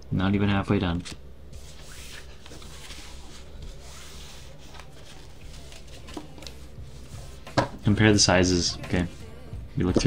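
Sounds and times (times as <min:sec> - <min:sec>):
low hum and hiss: 0:00.0 - 0:10.0
trading cards rubbing and tapping: 0:01.0 - 0:09.3.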